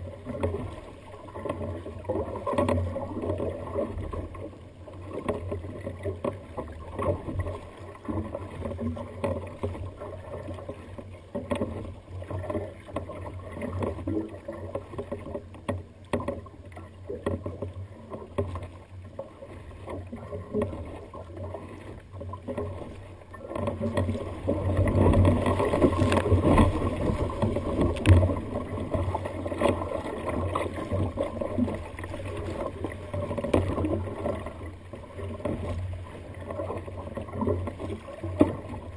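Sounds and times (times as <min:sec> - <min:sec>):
water splashing against kayak hull: 0:00.0 - 0:38.9.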